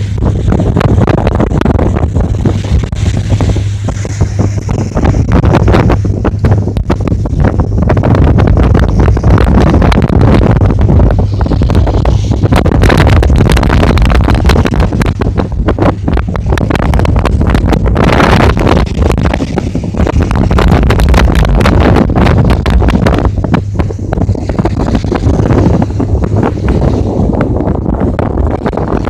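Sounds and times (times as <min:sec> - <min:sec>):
boat diesel engine droning: 0:00.0 - 0:29.0
wind buffeting microphone: 0:00.0 - 0:29.0.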